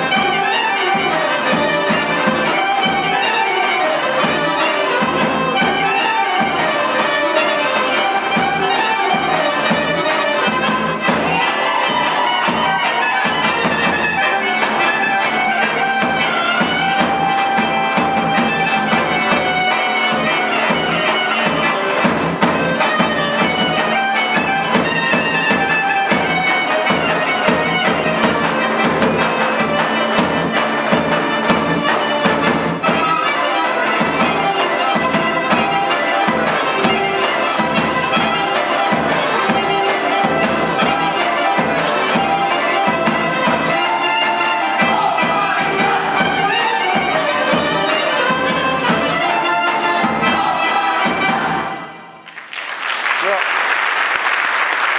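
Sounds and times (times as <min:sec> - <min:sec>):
shrill reed wind instrument: 0:00.0 - 0:52.2.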